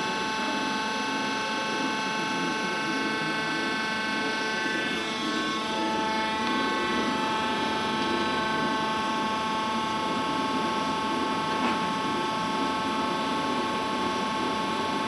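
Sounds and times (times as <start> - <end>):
centrifuge whine and rumble: 0.0 - 15.0.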